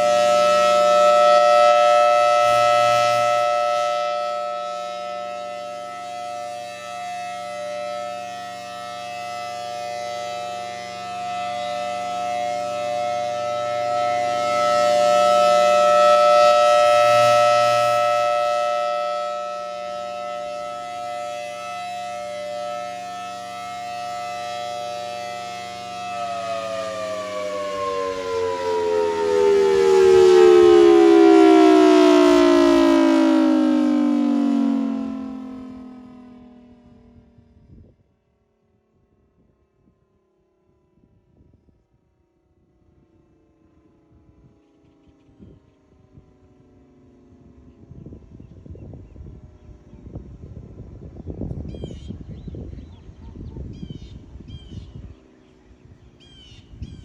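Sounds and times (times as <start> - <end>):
outdoor warning siren: 0.0 - 57.0.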